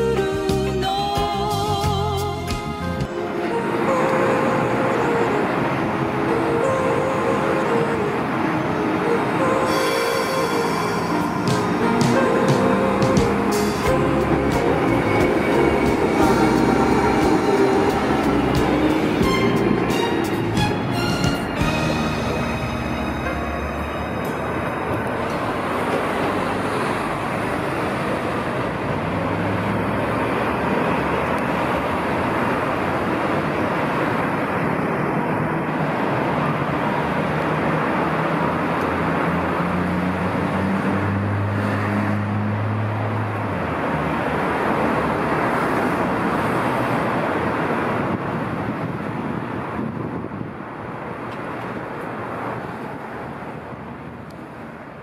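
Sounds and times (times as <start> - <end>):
cars passing: 0.0 - 55.0
vehicle engine hum rising in pitch: 0.0 - 55.0.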